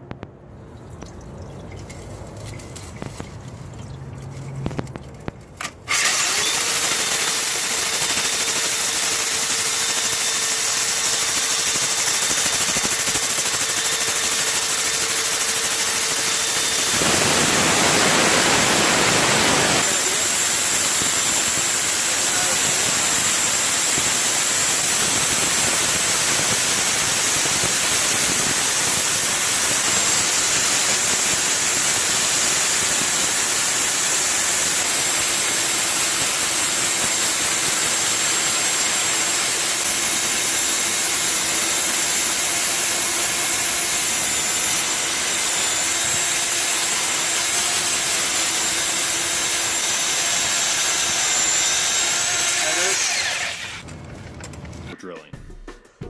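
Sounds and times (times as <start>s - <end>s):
core drill motor whine: 5.9s - 53.8s
loud hiss: 5.9s - 53.8s.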